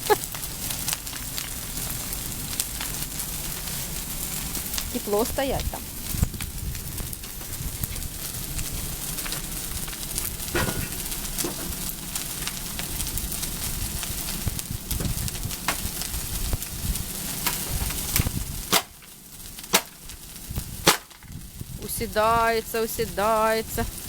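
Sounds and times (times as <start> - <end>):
loud sharp pops from fire: 0.0 - 21.8
bonfire hissing and crackling: 0.0 - 24.0.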